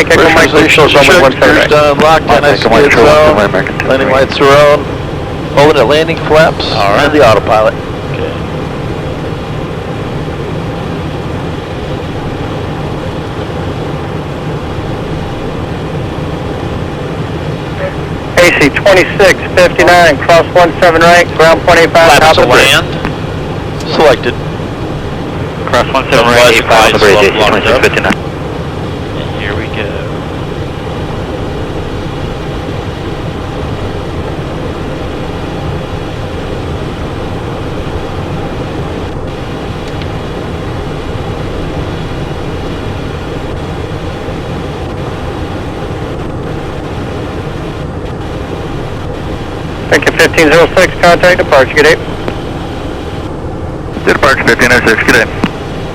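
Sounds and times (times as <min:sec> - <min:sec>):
jet engine and airflow rush: 0:00.0 - 0:55.9.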